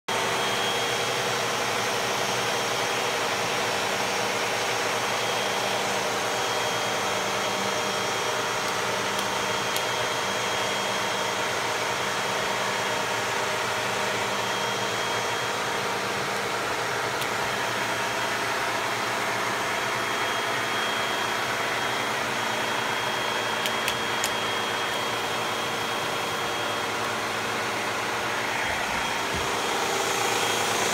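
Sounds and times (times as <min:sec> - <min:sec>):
vacuum cleaner running: 0:00.1 - 0:30.9.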